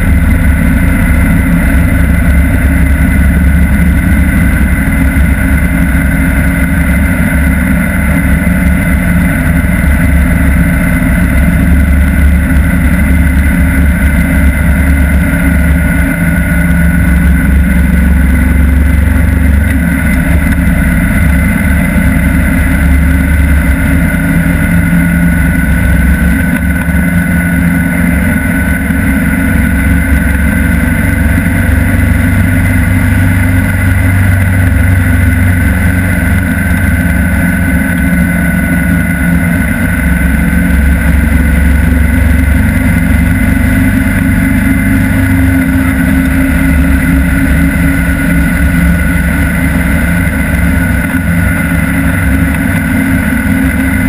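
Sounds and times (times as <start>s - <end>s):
motorcycle engine running: 0.0s - 54.0s
wind rush and road noise: 0.0s - 54.0s.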